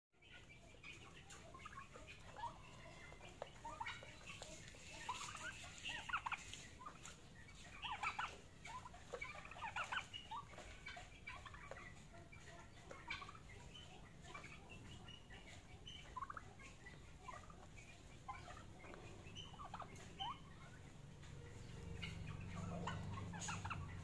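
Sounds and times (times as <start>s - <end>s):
young peafowl chirping: 0.2s - 24.0s.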